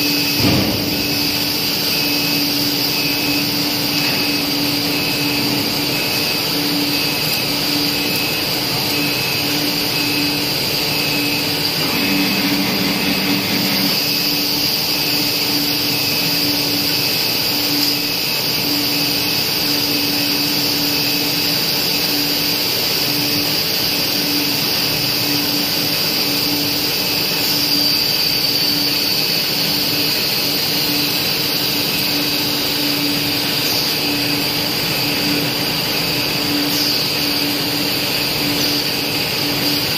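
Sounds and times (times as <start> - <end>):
machine hiss and hum: 0.0 - 39.9.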